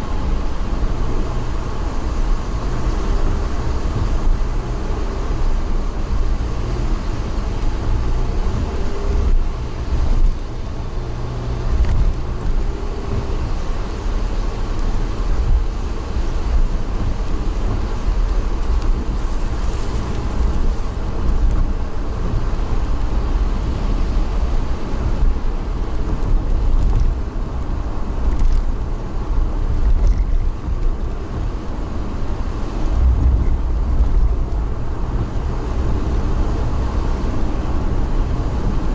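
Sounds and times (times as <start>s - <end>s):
moving vehicle rumble: 0.0s - 38.9s.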